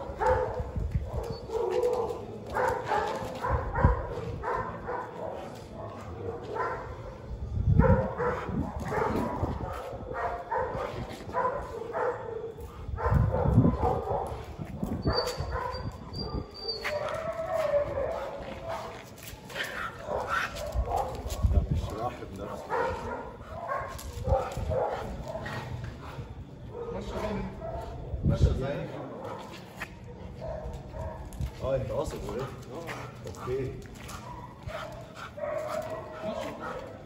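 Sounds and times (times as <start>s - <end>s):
dog barking: 0.0s - 7.2s, 7.8s - 19.1s, 19.7s - 28.2s, 29.0s - 31.4s, 32.3s - 37.0s.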